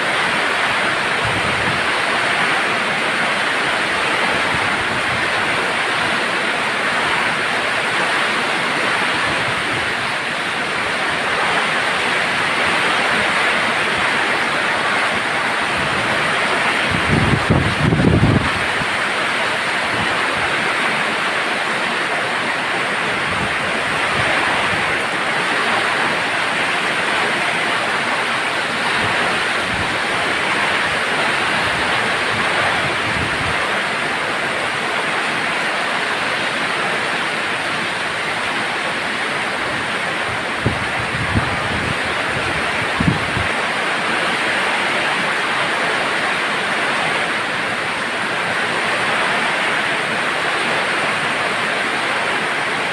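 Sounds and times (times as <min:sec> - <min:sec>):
heavy rain with wind: 0:00.0 - 0:52.9.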